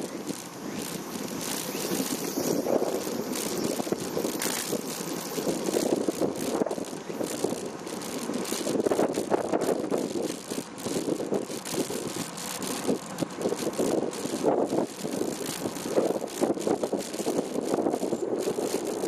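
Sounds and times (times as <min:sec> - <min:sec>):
road rattle and jolts: 0:00.0 - 0:19.0
wind buffeting microphone: 0:00.0 - 0:19.0.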